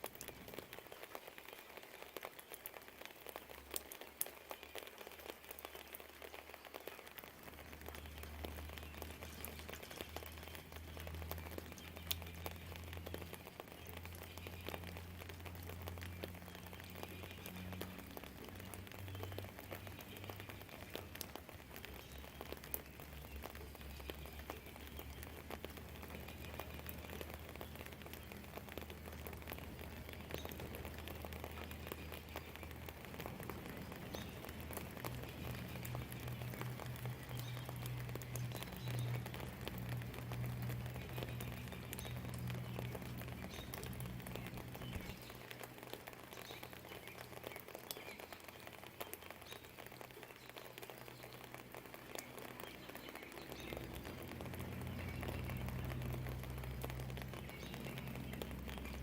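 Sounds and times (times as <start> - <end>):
rain falling: 0.0 - 59.0
raindrops tapping: 0.0 - 59.0.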